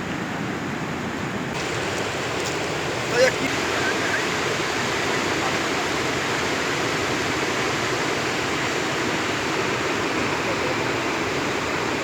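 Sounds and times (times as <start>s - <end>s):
floodwater rushing: 1.5s - 12.0s.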